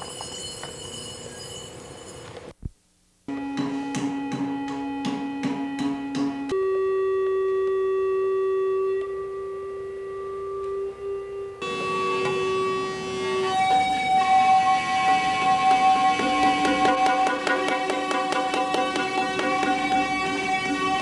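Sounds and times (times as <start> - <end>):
noise: 0.0 - 21.0
experimental electronic tone: 3.3 - 21.0.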